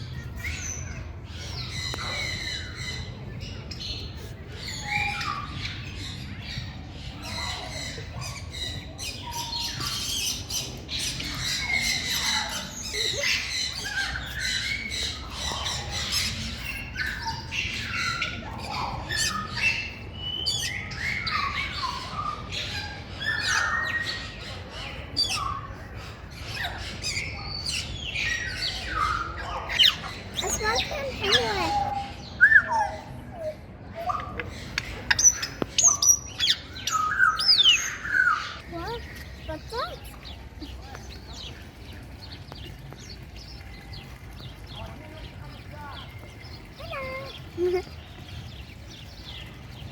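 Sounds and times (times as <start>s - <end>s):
birds squawking and calling: 0.0s - 49.9s.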